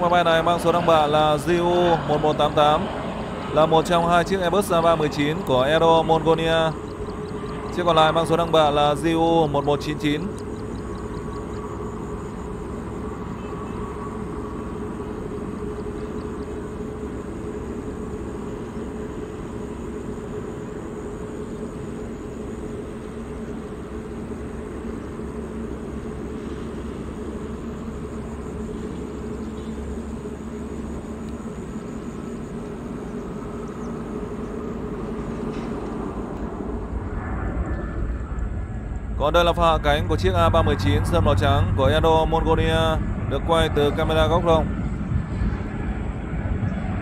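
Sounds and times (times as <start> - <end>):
jet engines droning: 0.0 - 47.0.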